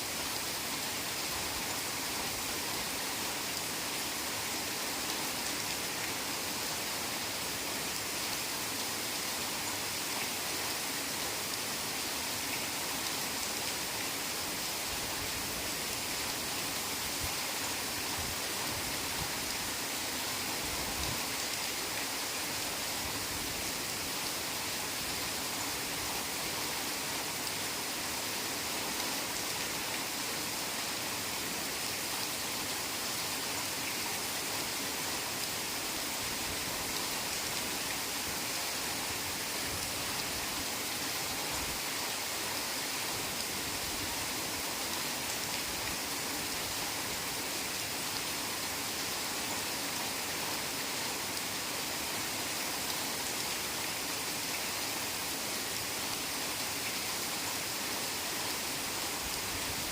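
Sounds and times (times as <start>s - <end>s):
heavy rain on foliage: 0.0s - 59.9s.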